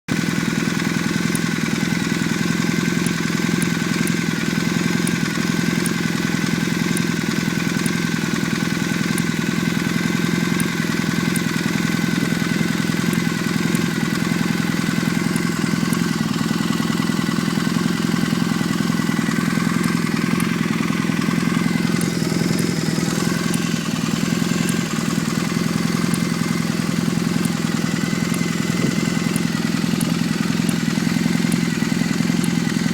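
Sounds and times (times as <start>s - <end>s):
engine idling: 0.1s - 32.9s.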